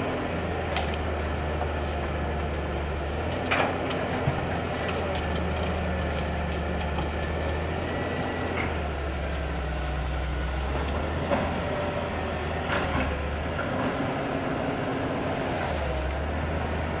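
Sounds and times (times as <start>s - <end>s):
excavator diesel engine hum: 0.0s - 17.0s.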